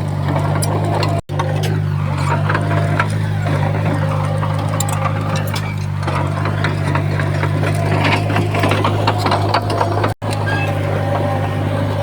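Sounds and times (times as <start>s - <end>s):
stone and soil scraping: 0.0s - 10.5s
bulldozer diesel engine drone: 0.0s - 12.0s
tracks clattering: 0.0s - 12.0s.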